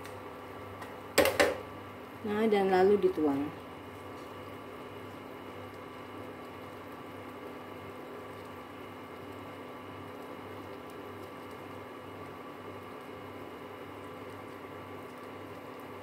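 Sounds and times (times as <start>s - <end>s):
electric hum and fan noise: 0.0s - 16.0s.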